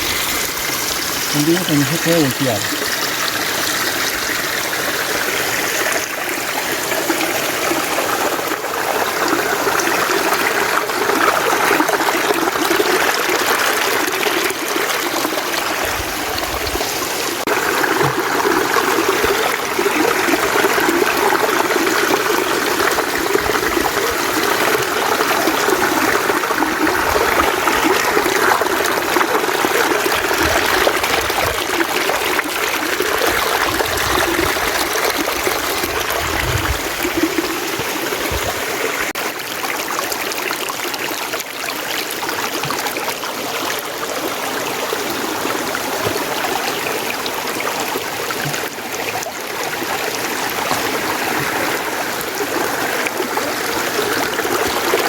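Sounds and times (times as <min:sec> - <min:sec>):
stream water flowing over rocks: 0:00.0 - 0:55.0.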